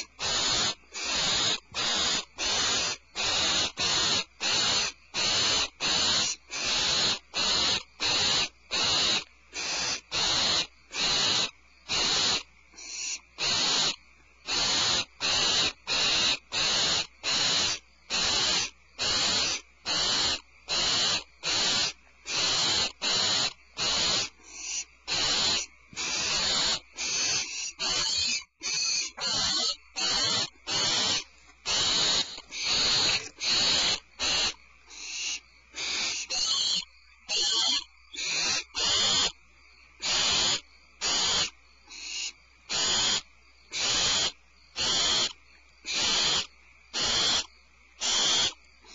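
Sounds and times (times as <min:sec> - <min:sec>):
barn owl hissing calls: 0:00.0 - 0:39.4, 0:40.0 - 0:48.9.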